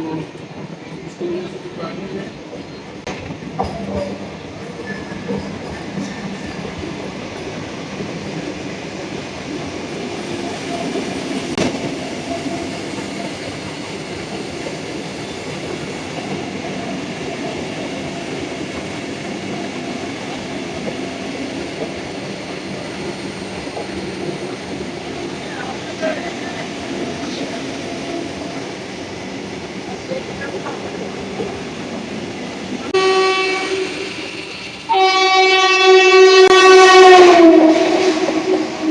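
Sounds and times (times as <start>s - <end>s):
train rumbling and rattling on rails: 0.0s - 38.9s.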